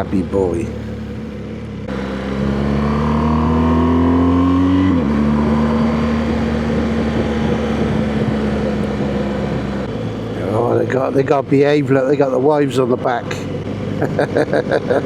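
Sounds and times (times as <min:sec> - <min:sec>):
road and wind noise: 0:00.0 - 0:15.0
motorcycle engine revving and upshifting: 0:00.8 - 0:15.0.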